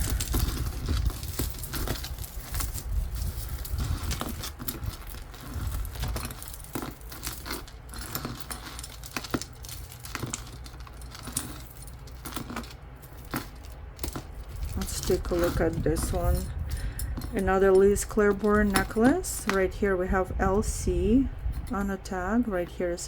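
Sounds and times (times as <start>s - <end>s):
jewelry clinking and rattling: 0.0s - 20.3s.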